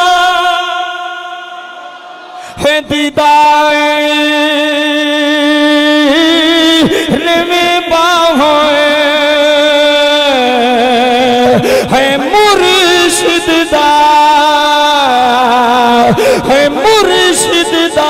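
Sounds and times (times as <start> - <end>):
man singing devotional verse: 0.0 - 18.0.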